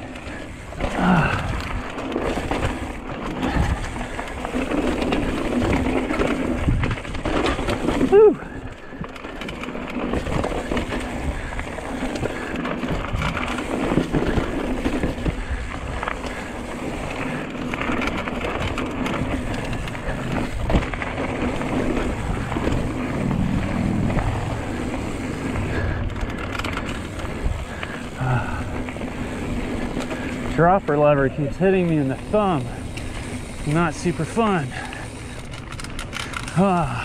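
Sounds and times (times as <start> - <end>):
bike frame clattering over bumps: 0.0 - 37.0
bike tyres rolling on dirt: 0.0 - 37.0.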